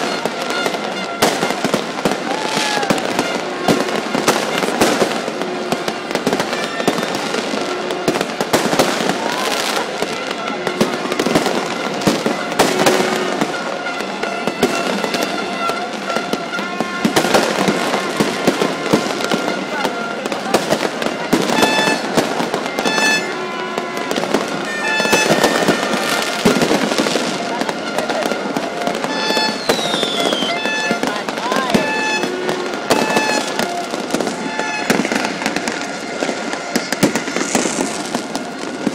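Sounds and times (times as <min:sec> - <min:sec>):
constant noisy din: 0:00.0 - 0:38.9
fireworks bangs and crackles: 0:00.0 - 0:38.9.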